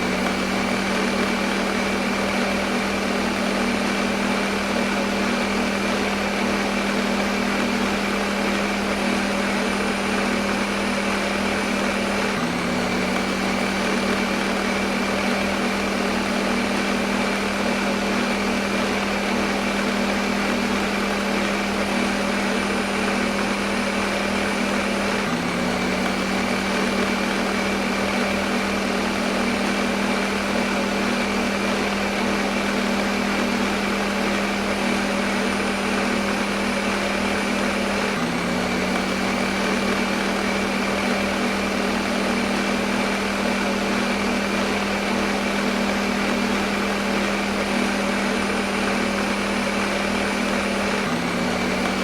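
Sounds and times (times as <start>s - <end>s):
blender motor whirring: 0.0s - 52.0s.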